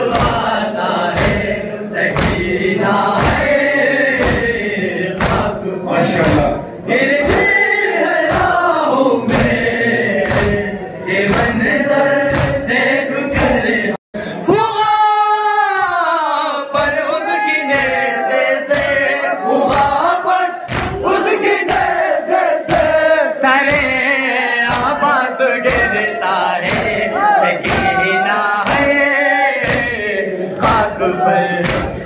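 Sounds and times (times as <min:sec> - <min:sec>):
men chanting together: 0:00.0 - 0:32.0.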